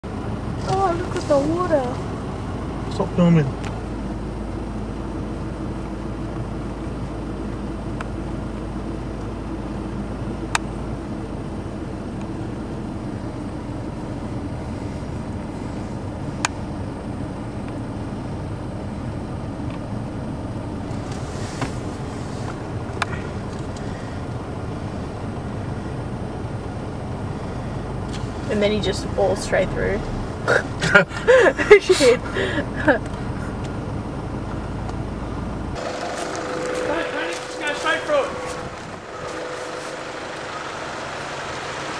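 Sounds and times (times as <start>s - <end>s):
engine running at low speed: 0.0s - 41.9s
road noise: 0.0s - 41.9s.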